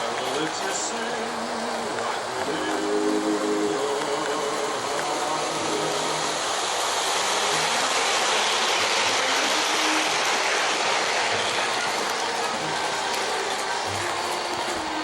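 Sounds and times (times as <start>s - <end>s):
model train whirring: 0.0s - 15.0s.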